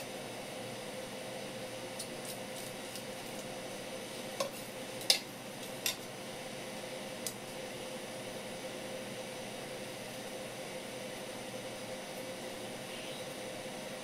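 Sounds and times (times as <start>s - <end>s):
background hiss and hum: 0.0s - 14.0s.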